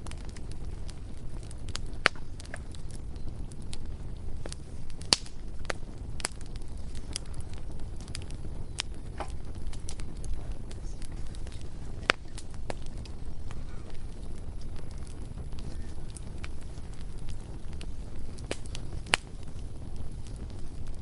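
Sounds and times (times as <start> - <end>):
bonfire crackling: 0.0 - 21.0
burning wood popping: 0.0 - 21.0
low fire rumble: 0.0 - 21.0.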